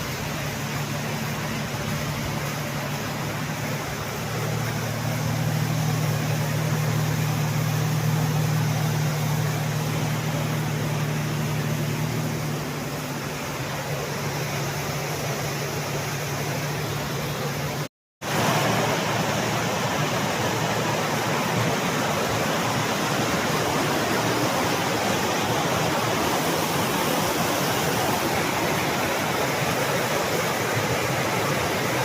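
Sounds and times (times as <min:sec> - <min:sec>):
car engine running: 0:00.0 - 0:32.0
road noise: 0:00.0 - 0:32.0.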